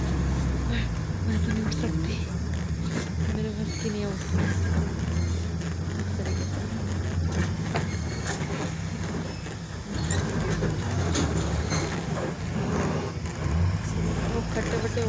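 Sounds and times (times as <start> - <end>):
light rattles: 0.0 - 15.0
road noise: 0.0 - 15.0
vehicle engine drone: 0.0 - 15.0.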